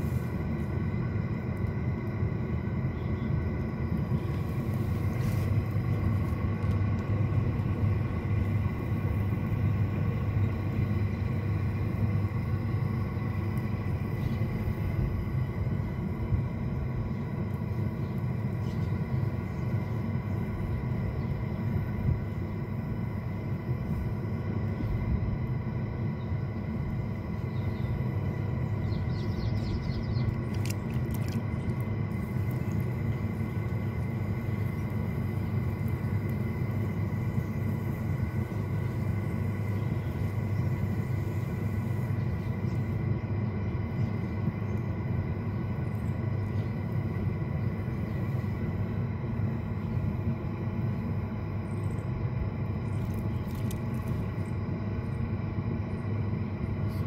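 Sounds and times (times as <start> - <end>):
potter's wheel spinning: 0.0 - 52.1.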